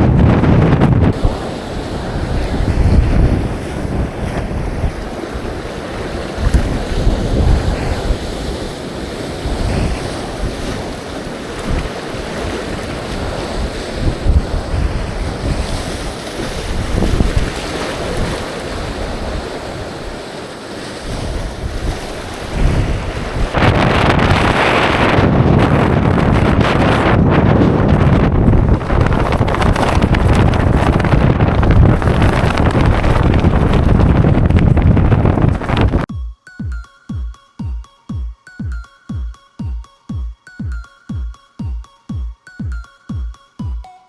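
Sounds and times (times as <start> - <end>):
strong wind on microphone: 0.0 - 20.3, 20.9 - 36.1.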